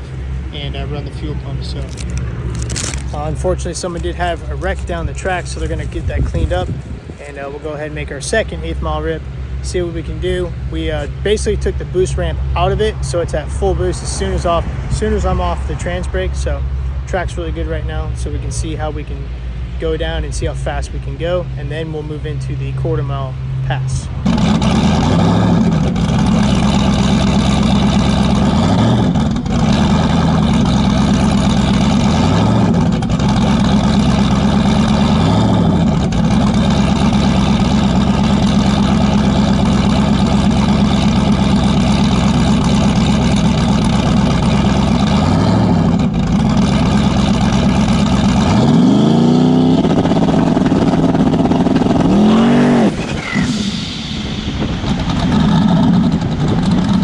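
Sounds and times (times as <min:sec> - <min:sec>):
drag car engine revving: 0:00.0 - 0:57.0.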